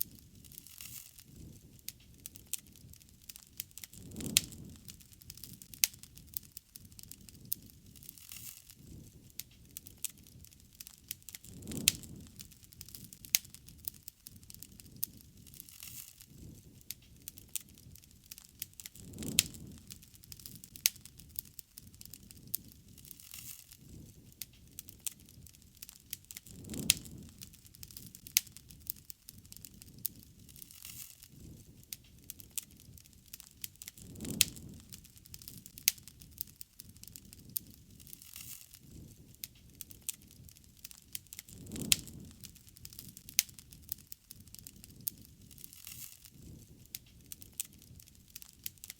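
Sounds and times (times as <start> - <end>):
low rumble of burning: 0.0 - 48.9
low rush of flame: 0.0 - 48.9
wood fire crackling and popping: 0.0 - 48.9.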